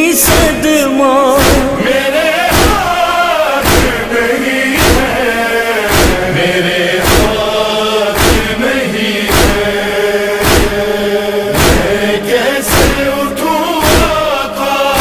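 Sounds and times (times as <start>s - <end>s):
chorus chanting a drone: 0.0s - 15.0s
deep rhythmic thumps: 0.2s - 0.8s, 1.4s - 15.0s.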